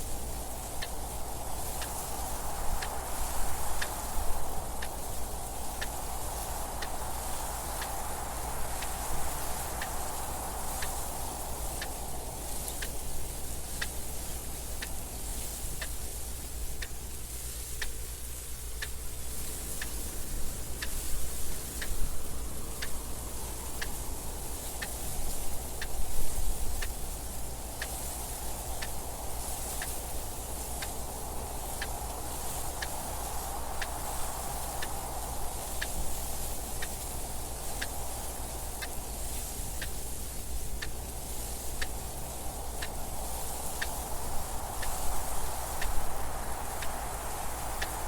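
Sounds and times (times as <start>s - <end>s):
wind gusts: 0.0s - 48.0s
clock ticking: 0.6s - 4.0s, 4.7s - 13.1s, 13.7s - 17.1s, 17.7s - 19.0s, 19.7s - 35.0s, 35.6s - 48.0s.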